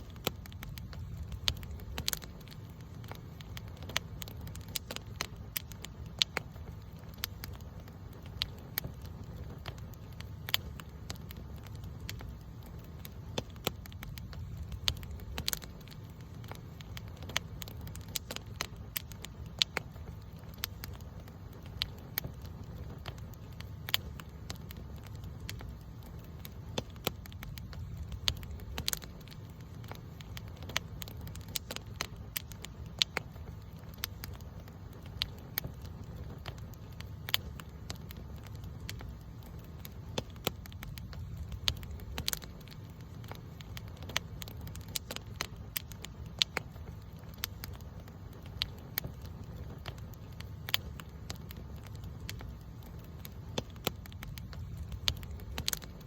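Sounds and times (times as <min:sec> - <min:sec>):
campfire crackling: 0:00.0 - 0:56.0
fire pops and snaps: 0:00.0 - 0:56.0
low steady rumble: 0:00.0 - 0:56.0.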